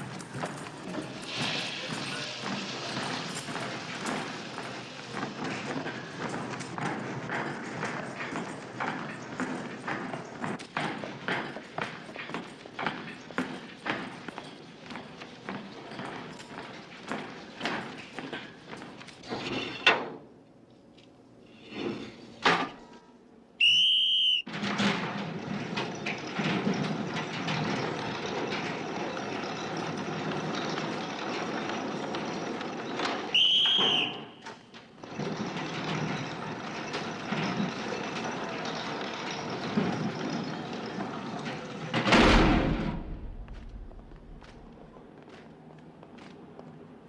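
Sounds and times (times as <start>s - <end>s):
heavy sliding gate rumbling: 0.0s - 20.2s, 24.5s - 44.9s.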